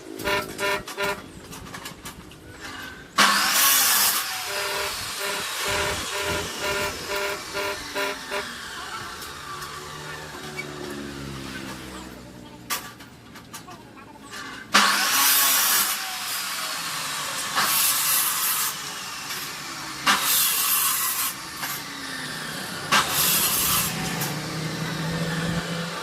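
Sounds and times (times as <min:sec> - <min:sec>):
angle grinder cutting steel: 0:00.0 - 0:12.2, 0:14.3 - 0:26.0
grinder motor running: 0:02.5 - 0:12.2, 0:14.7 - 0:26.0.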